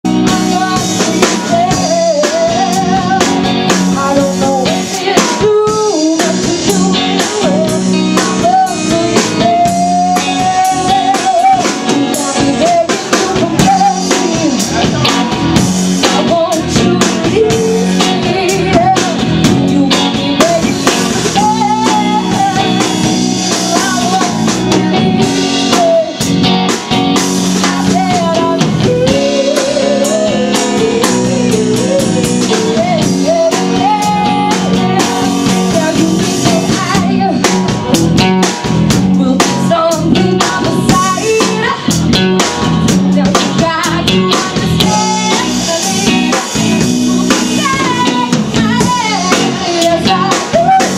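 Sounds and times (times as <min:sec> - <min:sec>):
drum kit: 0:00.0 - 0:50.9
electric guitar: 0:00.0 - 0:50.9
person singing: 0:00.0 - 0:50.9.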